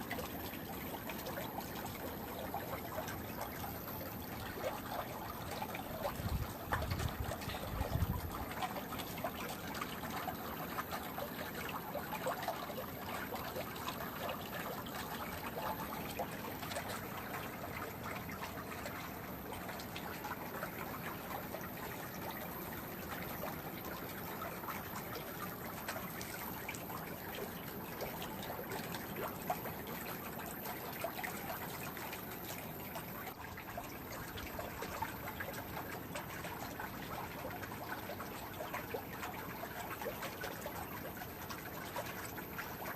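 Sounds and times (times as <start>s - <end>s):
pool water trickling: 0.0s - 42.9s.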